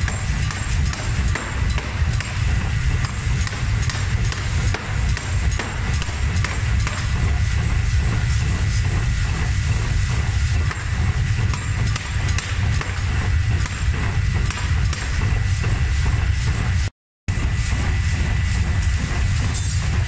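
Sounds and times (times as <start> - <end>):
deep machine rumble: 0.0 - 20.0
power hammer pounding steel: 0.0 - 20.0.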